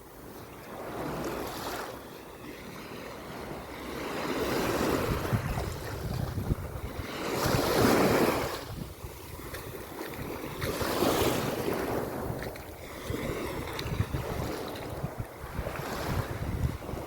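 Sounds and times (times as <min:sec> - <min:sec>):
sea waves washing in: 0:00.0 - 0:17.0
wind buffeting microphone: 0:03.2 - 0:17.0.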